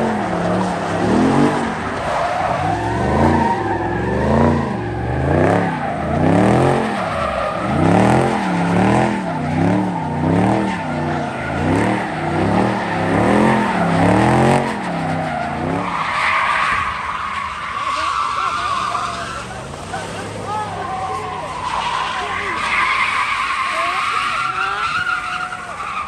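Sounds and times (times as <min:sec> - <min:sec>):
car engine revving: 0:00.0 - 0:26.0
tyres screeching on asphalt: 0:00.0 - 0:26.0.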